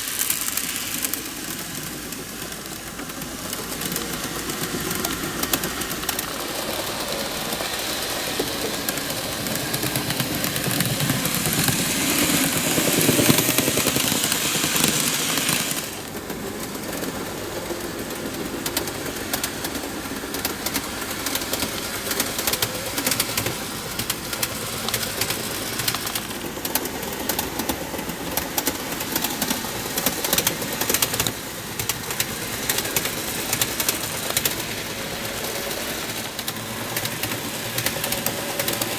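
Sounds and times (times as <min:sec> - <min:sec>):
model train motor hum: 0:00.0 - 0:38.9
wheels rattling on rails: 0:00.0 - 0:38.9.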